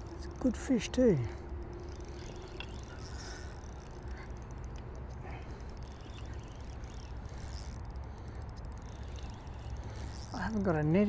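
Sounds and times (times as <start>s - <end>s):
fishing reel winding: 0.0s - 11.0s.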